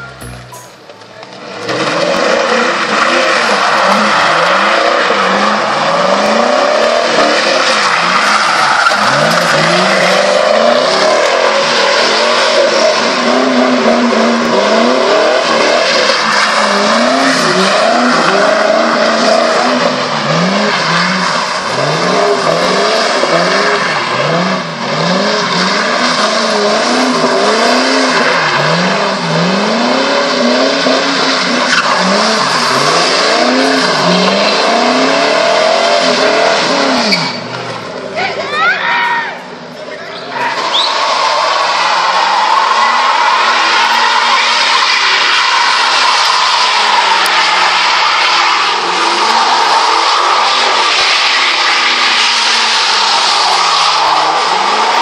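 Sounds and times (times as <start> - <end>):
car engines revving: 0.0 - 38.6, 39.4 - 55.0.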